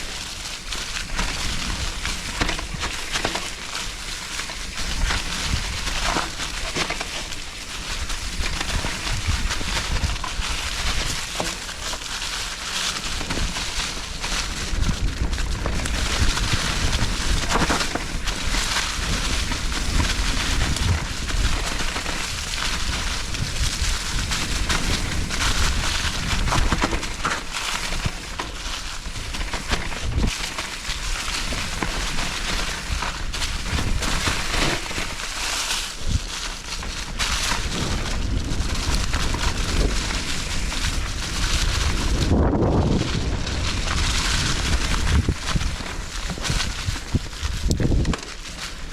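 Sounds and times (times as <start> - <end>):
bike knocks and rattles: 0.0 - 48.9
wind and tyres rumbling: 0.0 - 48.9.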